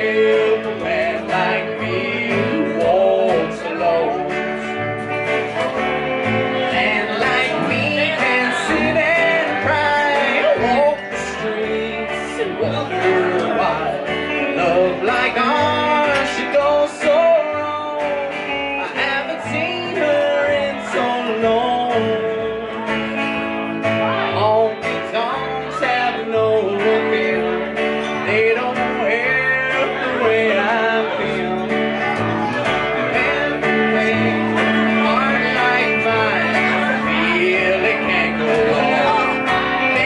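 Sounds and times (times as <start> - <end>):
acoustic guitar: 0.0 - 40.0
electric guitar: 0.0 - 40.0
upright bass: 0.0 - 40.0.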